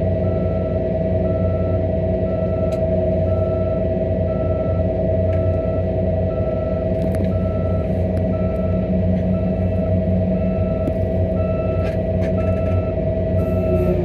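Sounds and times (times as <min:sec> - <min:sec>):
heavy diesel machinery running: 0:00.0 - 0:14.0
back-up alarm beeping: 0:00.1 - 0:14.0.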